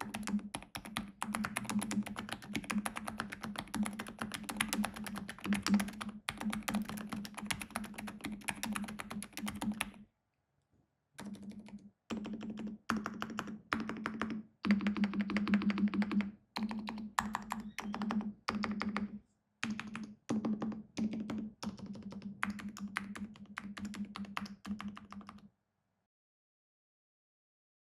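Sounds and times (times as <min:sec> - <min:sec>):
soft mechanical keyboard typing: 0:00.0 - 0:10.0, 0:11.2 - 0:25.5.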